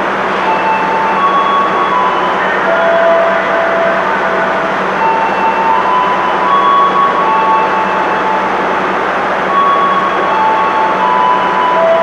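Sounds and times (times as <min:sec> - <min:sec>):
train cars rumbling: 0:00.0 - 0:12.0
train wheel squeals: 0:00.4 - 0:12.0.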